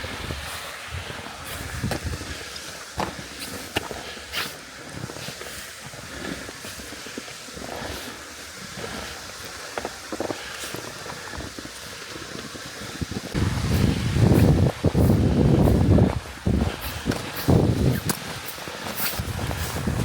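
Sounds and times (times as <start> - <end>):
footsteps crunching in snow: 0.0 - 20.0.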